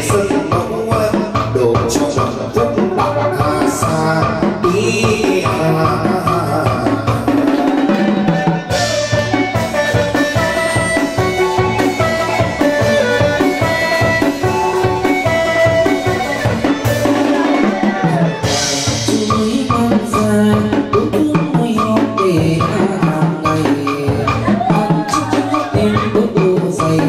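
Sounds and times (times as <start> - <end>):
drums beating: 0.0 - 27.0.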